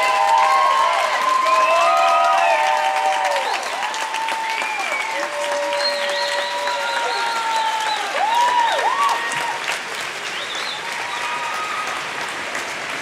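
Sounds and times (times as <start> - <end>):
high-pitched cries and whoops: 0.0 - 9.7, 10.6 - 12.1
audience applauding: 0.0 - 13.0.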